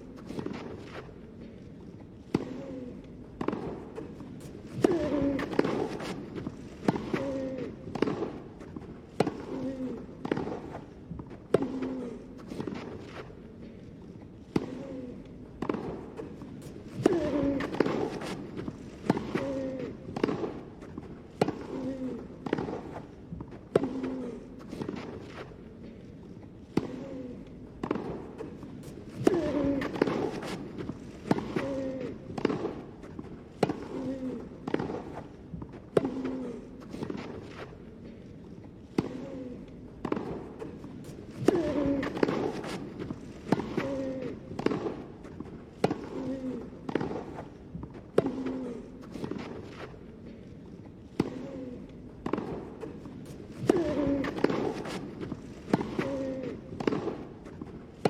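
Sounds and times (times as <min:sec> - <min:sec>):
tennis racket hitting ball: 0:03.4 - 0:13.3, 0:15.6 - 0:25.6, 0:26.7 - 0:27.1, 0:27.8 - 0:37.8, 0:38.9 - 0:39.3, 0:40.0 - 0:50.0, 0:52.2 - 0:58.0.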